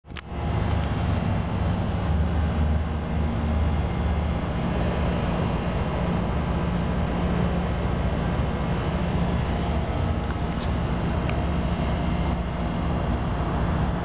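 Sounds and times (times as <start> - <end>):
engine idling: 0.1 - 14.0.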